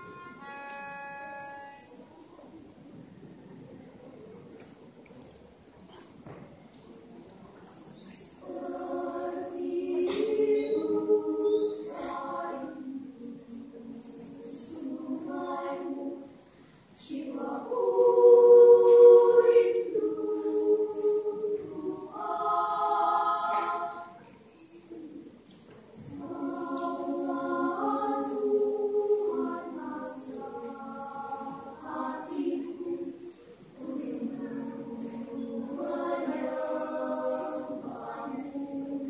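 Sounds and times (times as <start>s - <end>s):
children's choir singing: 0.0s - 2.8s, 8.2s - 39.0s.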